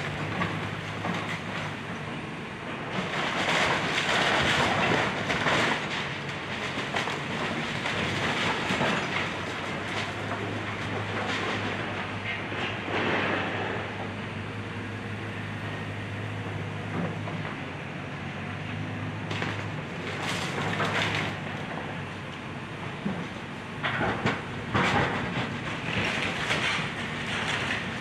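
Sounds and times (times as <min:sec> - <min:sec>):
demolition debris crunching: 0:00.0 - 0:13.9, 0:19.1 - 0:28.0
excavator diesel engine running: 0:00.0 - 0:28.0.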